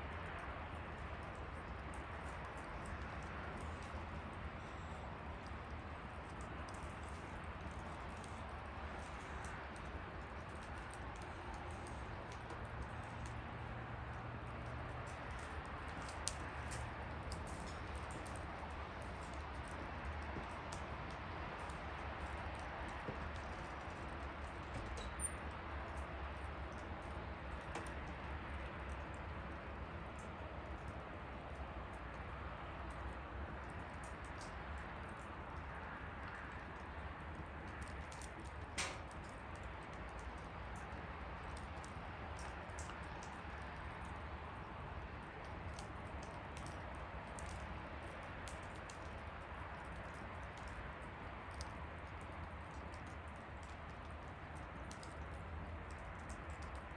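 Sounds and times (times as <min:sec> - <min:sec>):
campfire flames rushing: 0:00.0 - 0:56.9
wood fire crackling and hissing: 0:00.0 - 0:56.9.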